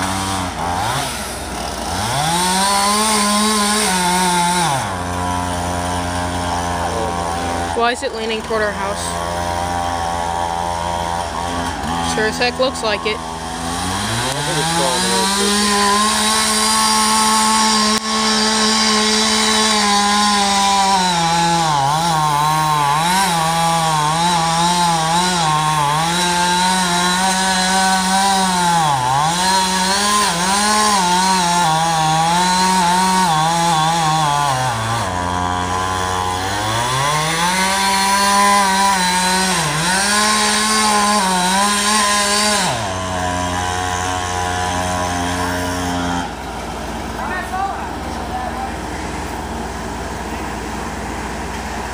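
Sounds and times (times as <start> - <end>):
chainsaw cutting wood: 0.0 - 51.9
chainsaw idling: 0.0 - 51.9.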